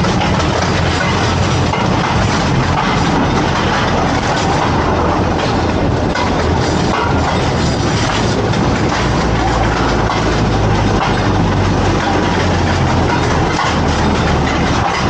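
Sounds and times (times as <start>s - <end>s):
engine hum: 0.0s - 15.0s
wheels rattling on rails: 0.0s - 15.0s.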